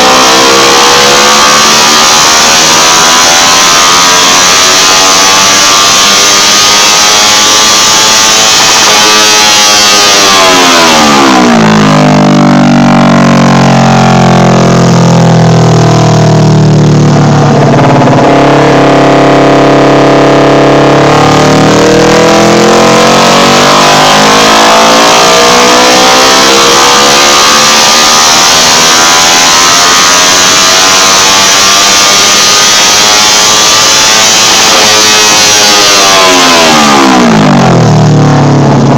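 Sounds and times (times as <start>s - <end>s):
motorcycle engine revving on a dyno: 0.0s - 38.9s.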